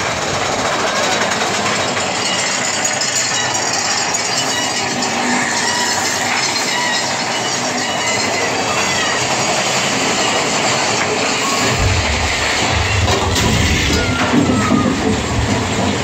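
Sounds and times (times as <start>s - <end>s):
roller coaster wheels clattering: 0.0s - 16.0s.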